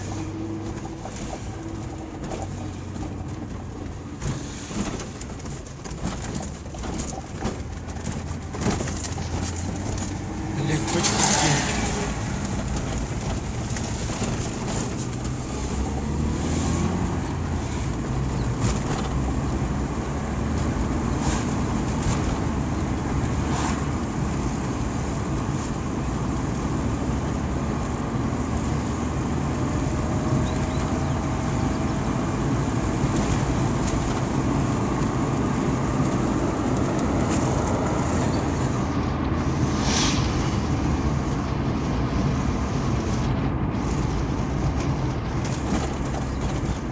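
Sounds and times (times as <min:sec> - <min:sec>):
vehicle running hum: 0:00.0 - 0:46.9.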